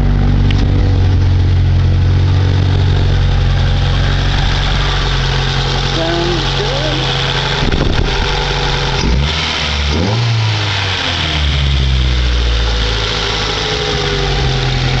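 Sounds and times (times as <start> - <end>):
raspy car engine revving: 0.0 - 15.0.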